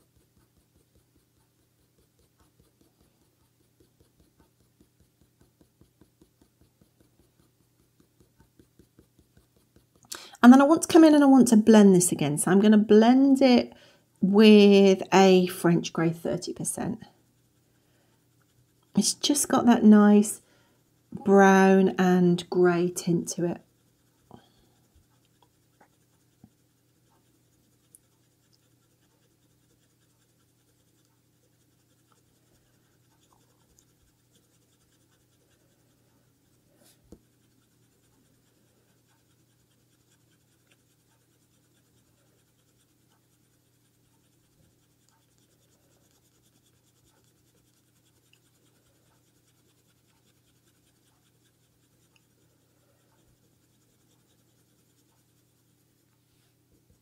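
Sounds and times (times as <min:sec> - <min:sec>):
pencil scratching on paper: 0:00.0 - 0:13.7, 0:14.4 - 0:57.0
low steady hum: 0:00.0 - 0:57.0.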